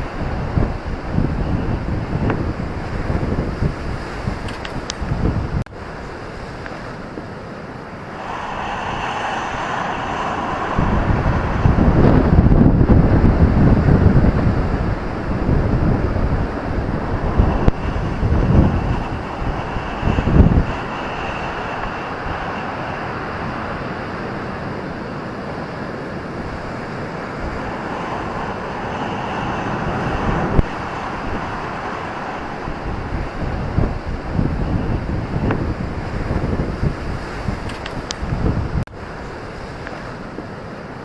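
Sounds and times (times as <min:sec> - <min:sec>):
ocean waves roaring: 0:00.0 - 0:41.0
wind buffeting microphone: 0:00.0 - 0:41.0.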